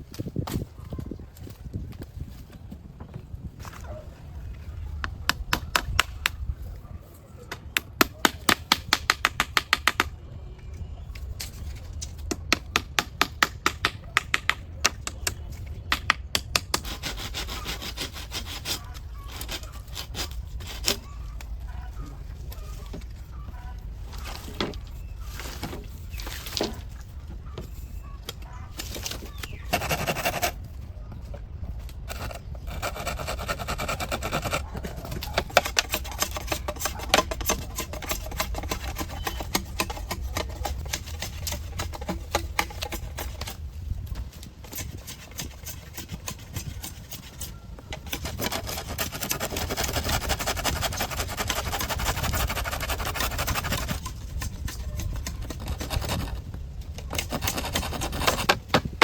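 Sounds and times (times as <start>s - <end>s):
rough scraping: 11.2s - 59.0s.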